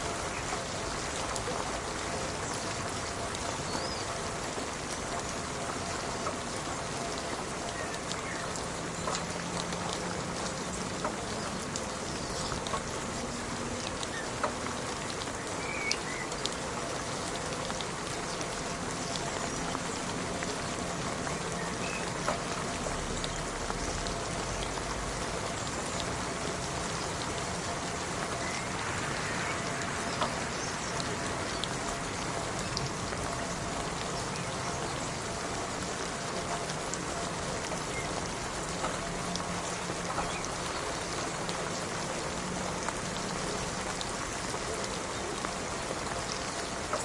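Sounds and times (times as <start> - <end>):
rain falling: 0.0 - 47.0
raindrops ticking: 0.0 - 47.0.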